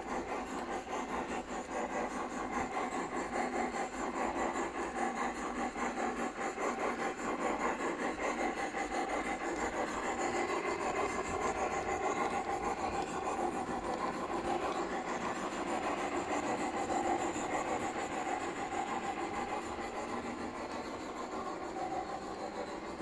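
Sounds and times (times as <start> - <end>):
model train rasping on track: 0.0 - 23.0.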